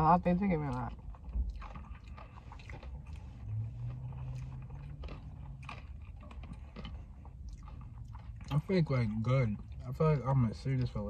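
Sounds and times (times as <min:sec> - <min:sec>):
low steady hum: 0:00.0 - 0:11.0
person chewing food: 0:00.8 - 0:11.0.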